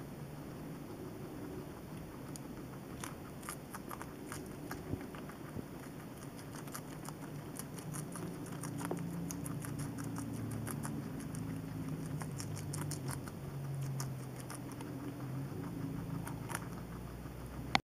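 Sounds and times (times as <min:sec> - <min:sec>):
guinea pigs chewing vegetables: 0:00.0 - 0:17.8.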